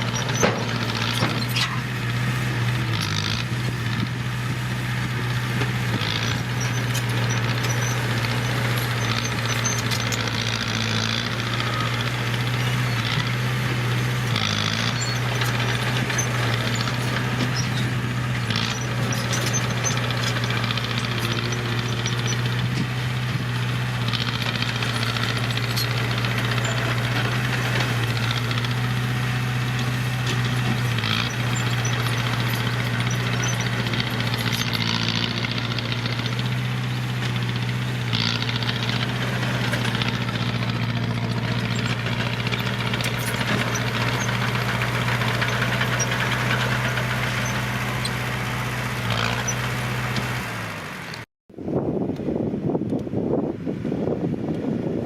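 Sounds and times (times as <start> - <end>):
heavy diesel engine running: 0.0 - 51.3.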